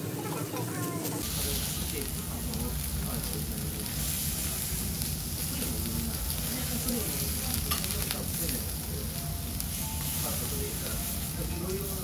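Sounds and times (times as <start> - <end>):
food sizzling on a griddle: 0.7 - 12.0.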